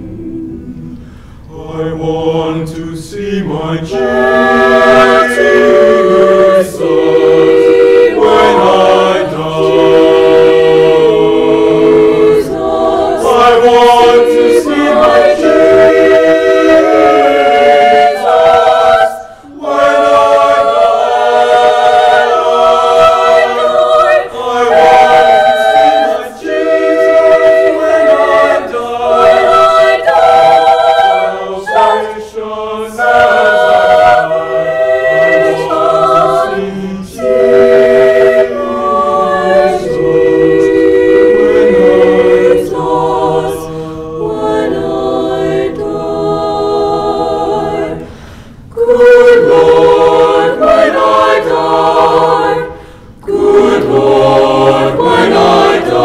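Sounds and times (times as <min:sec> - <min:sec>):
mixed choir singing a cappella: 0:00.0 - 0:56.0.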